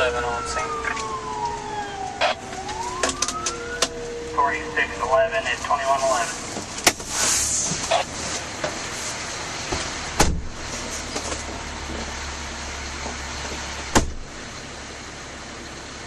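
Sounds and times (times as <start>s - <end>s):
low rumble: 0.0s - 14.6s
fire engine vehicle noise: 0.0s - 16.0s.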